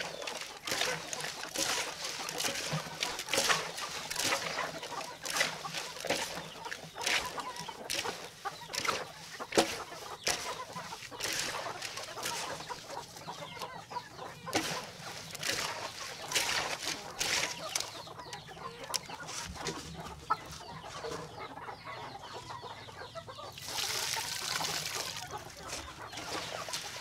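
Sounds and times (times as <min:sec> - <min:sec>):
hands rustling damp feed: 0:00.0 - 0:21.4, 0:23.6 - 0:27.0
chickens clucking: 0:00.0 - 0:27.0.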